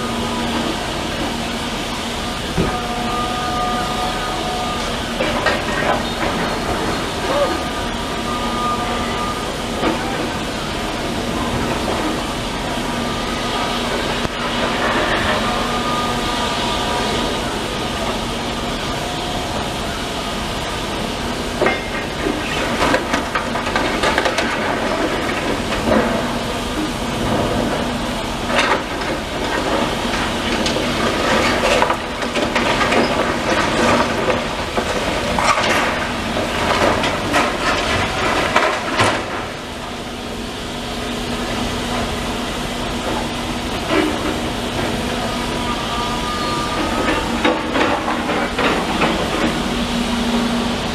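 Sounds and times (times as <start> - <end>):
demolition machine running: 0.0 - 50.9.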